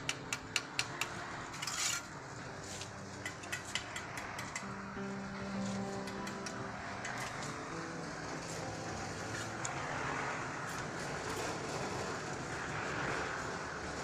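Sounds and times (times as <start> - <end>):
road traffic rushing: 0.0 - 14.0.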